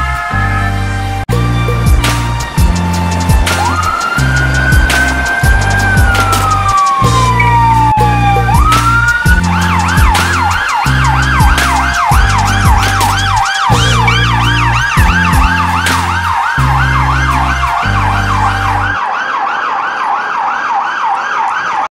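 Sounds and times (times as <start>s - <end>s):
deep pulsing low sound: 1.3s - 19.0s
siren on fast yelp: 2.5s - 21.9s.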